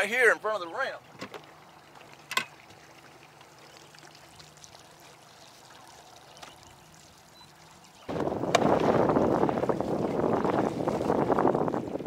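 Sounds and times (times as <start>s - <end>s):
faint trickling water: 0.0s - 12.0s.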